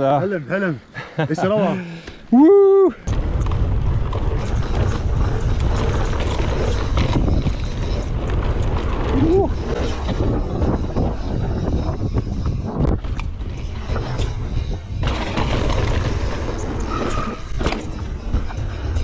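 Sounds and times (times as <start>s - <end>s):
mountain bike rattling on dirt: 3.0s - 19.0s
wind on microphone: 3.0s - 19.0s.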